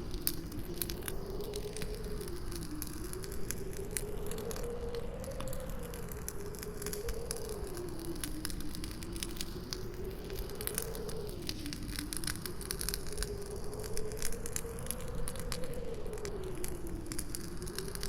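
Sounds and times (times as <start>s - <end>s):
campfire crackling and popping: 0.0s - 18.0s
howling wind: 0.0s - 18.0s.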